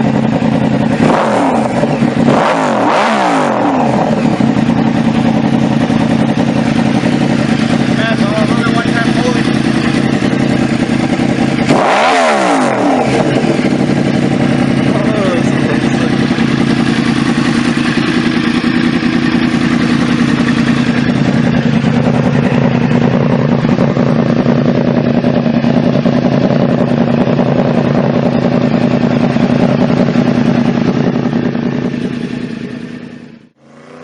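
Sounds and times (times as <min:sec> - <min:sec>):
motorcycle engine at high revs: 0:00.0 - 0:34.0.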